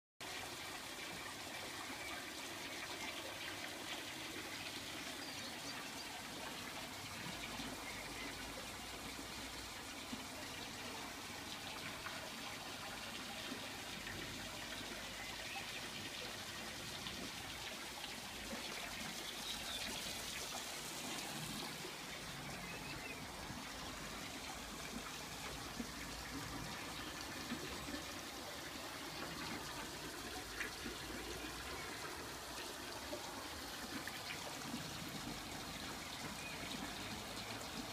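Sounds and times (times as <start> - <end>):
water trickling: 0.2 - 37.9.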